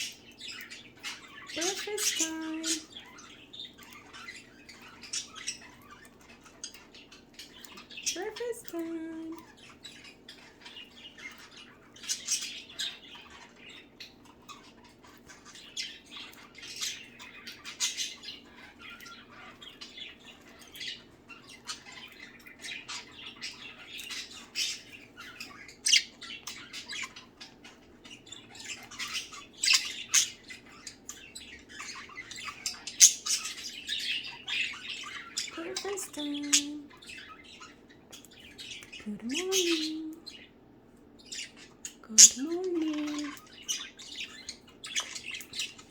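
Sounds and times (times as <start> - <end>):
budgerigars chattering and squawking: 0.0 - 45.9.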